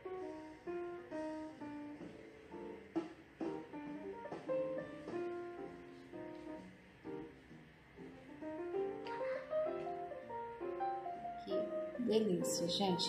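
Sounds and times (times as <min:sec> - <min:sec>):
instrumental guitar and piano melody: 0:00.0 - 0:13.0.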